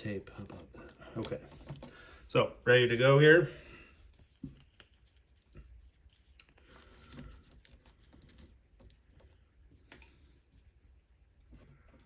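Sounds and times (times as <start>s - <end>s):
soft handling noises: 0.0s - 12.0s.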